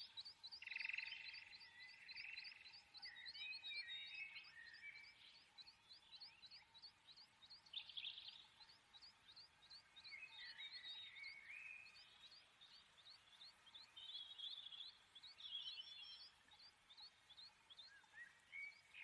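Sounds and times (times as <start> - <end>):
faint bird chirping: 0.0 - 19.0.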